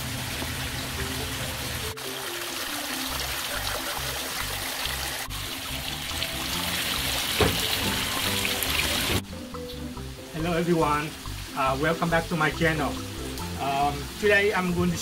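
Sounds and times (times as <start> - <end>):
waterfall splashing into pond: 0.0 - 15.0
background music with bass notes: 0.8 - 15.0.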